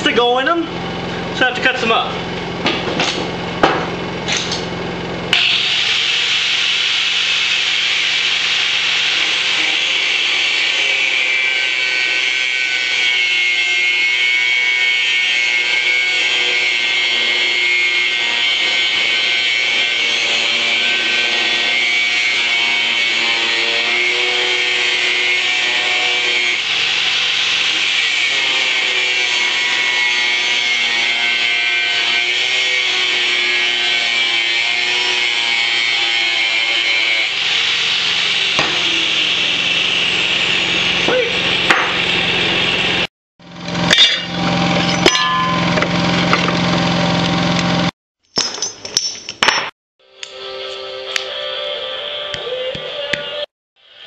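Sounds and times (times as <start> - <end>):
angle grinder cutting metal: 0.1 - 47.9.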